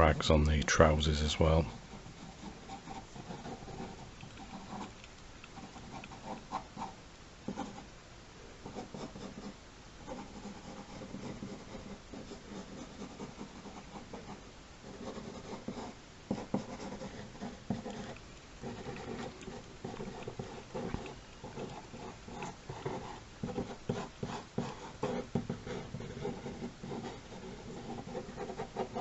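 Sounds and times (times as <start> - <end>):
pencil scratching on paper: 0.8 - 5.0, 5.6 - 7.8, 8.6 - 29.0.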